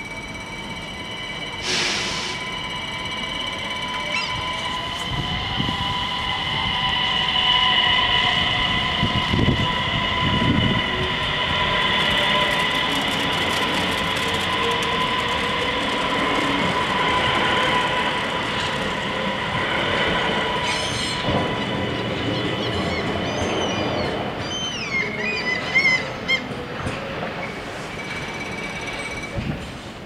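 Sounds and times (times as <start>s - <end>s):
steady high tones: 0.0s - 23.8s, 27.7s - 29.4s
train wheel and rail noise: 0.0s - 30.0s.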